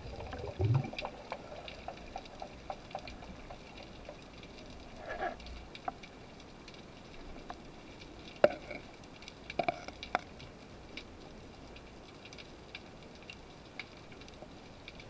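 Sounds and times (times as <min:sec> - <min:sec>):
sharp underwater clicks and crackles: 0:00.0 - 0:15.0.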